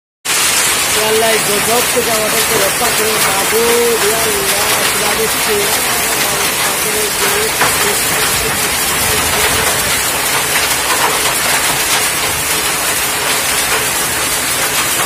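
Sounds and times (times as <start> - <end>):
hail and heavy rain pelting ground: 0.3 - 15.0
small hail impacts: 0.3 - 15.0.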